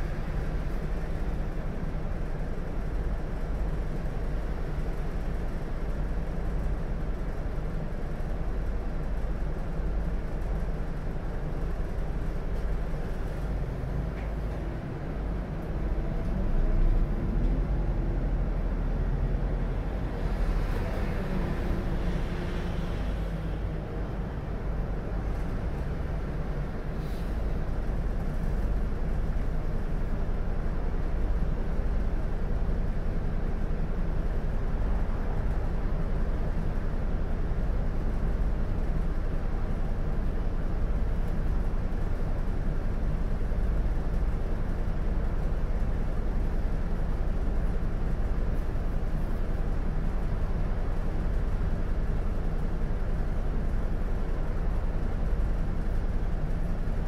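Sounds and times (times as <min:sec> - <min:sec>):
bus diesel engine idling: 0:00.0 - 0:57.0.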